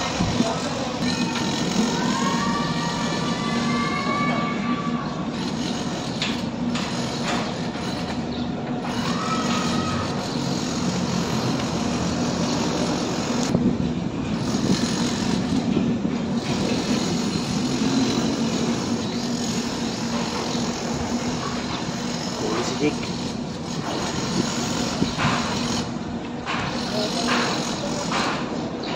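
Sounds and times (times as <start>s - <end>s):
engine drone: 0.0s - 28.3s.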